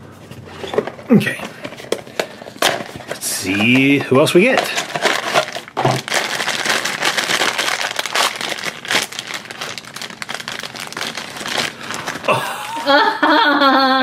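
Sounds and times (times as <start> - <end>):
plastic wrapper crinkling: 0.7 - 12.9.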